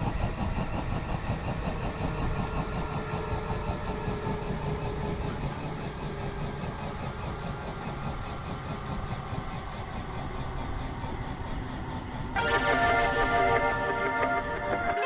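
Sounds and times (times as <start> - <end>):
helicopter rotor blade beat: 0.0 - 14.9
low drivetrain hum: 0.0 - 14.9.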